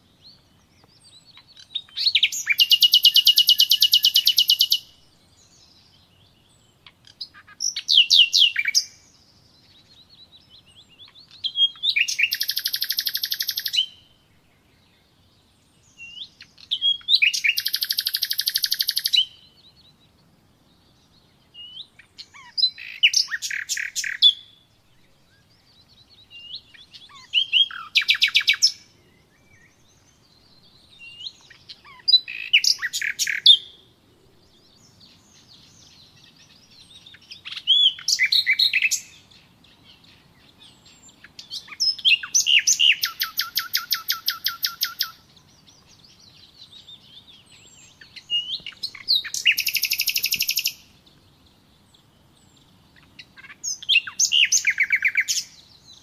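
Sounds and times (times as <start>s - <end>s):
songbird singing trills: 0.0s - 56.0s.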